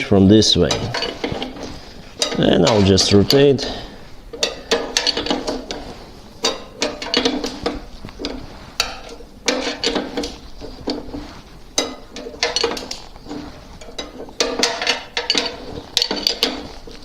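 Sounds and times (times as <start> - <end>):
wrenches clinking on metal: 0.6 - 11.2, 11.8 - 17.0.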